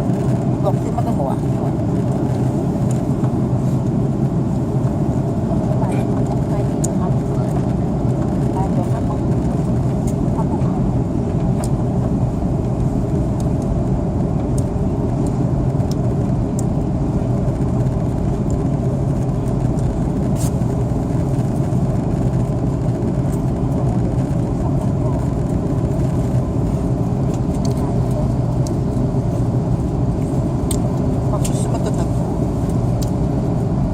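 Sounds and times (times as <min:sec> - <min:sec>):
aircraft cabin rumble: 0:00.0 - 0:33.9.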